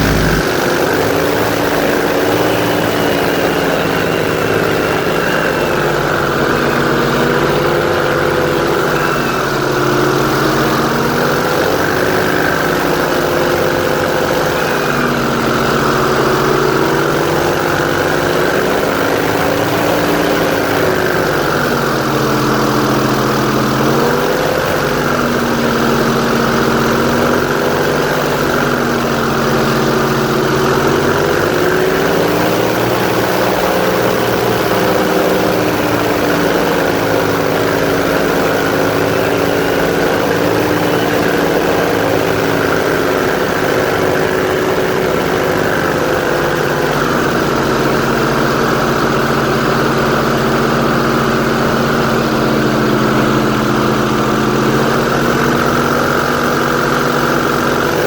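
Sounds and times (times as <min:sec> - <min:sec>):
airboat engine and propeller drone: 0:00.0 - 0:58.0.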